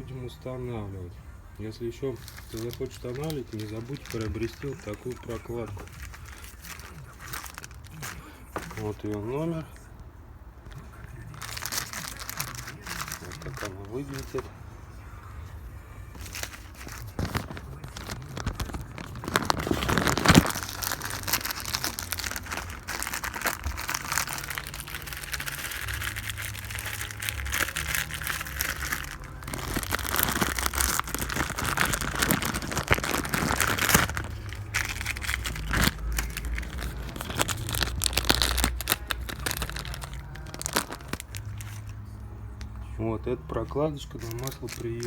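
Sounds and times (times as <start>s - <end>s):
packaging crinkling: 2.0s - 9.8s, 10.6s - 14.5s, 16.1s - 42.0s, 43.7s - 45.0s.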